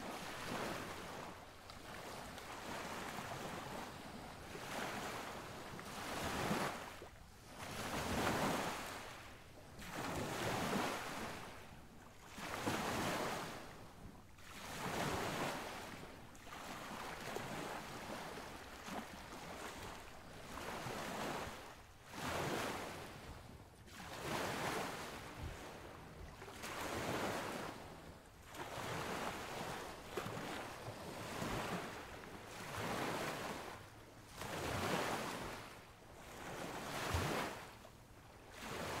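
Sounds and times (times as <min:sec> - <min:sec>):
waves breaking: 0:00.0 - 0:39.0.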